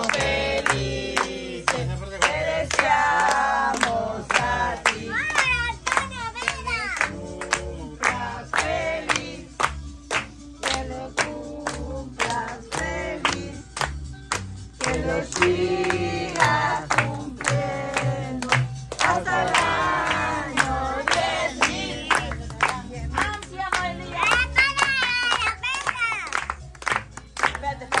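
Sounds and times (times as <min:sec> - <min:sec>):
people clapping along: 0:00.0 - 0:28.0
upbeat party music: 0:00.0 - 0:28.0.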